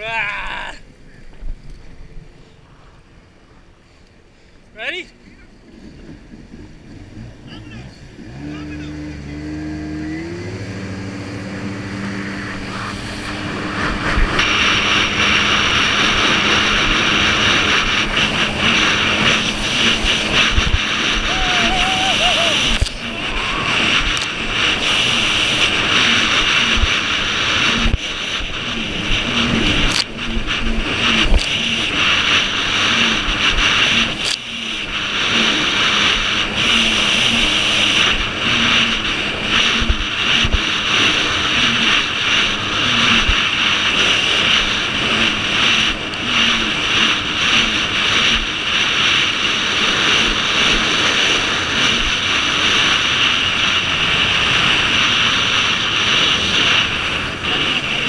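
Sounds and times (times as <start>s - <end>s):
jet ski engine running: 0.0s - 58.0s
hull slapping over waves: 0.8s - 58.0s
wind and water spray rushing: 8.2s - 58.0s.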